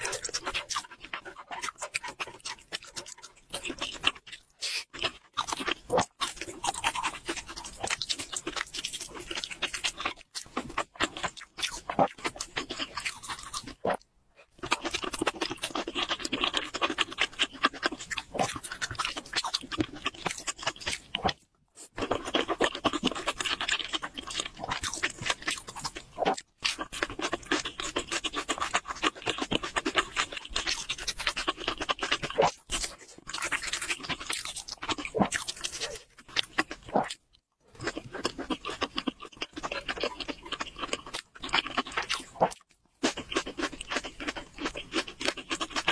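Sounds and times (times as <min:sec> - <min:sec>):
wet chewing and smacking: 0:00.0 - 0:45.9.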